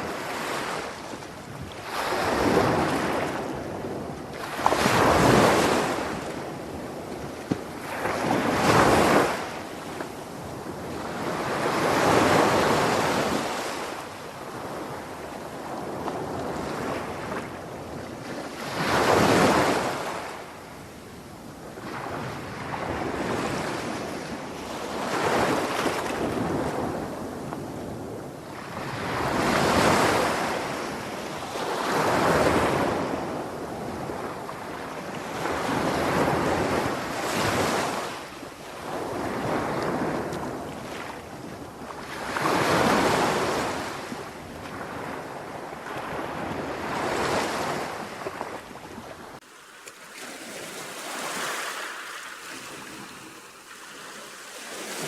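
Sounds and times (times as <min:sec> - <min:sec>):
sea waves surging and washing back: 0:00.0 - 0:55.0.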